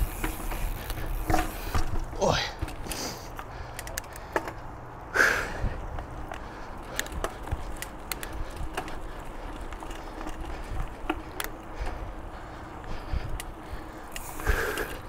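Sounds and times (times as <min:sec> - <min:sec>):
bike clicks and rattles: 0:00.0 - 0:15.0
bike tyres rumbling on dirt: 0:00.0 - 0:15.0.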